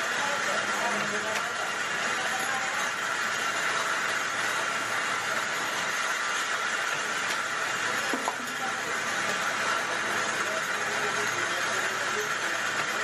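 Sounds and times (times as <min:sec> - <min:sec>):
coolant pouring: 0:00.0 - 0:13.0
lathe running: 0:00.0 - 0:13.0.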